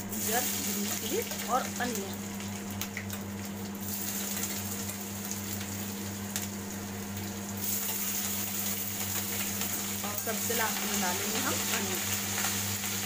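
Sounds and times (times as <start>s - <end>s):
hot oil sizzling: 0.0s - 13.0s
steady low hum: 0.0s - 13.0s.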